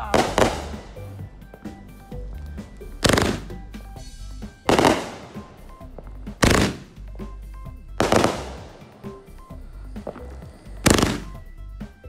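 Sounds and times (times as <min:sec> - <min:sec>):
firework bangs: 0:00.0 - 0:01.8, 0:02.6 - 0:11.6.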